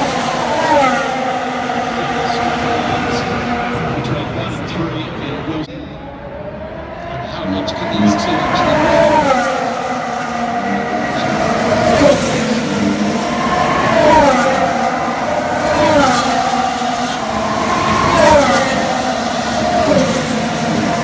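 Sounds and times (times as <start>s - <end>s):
racing cars passing by: 0.0s - 21.0s.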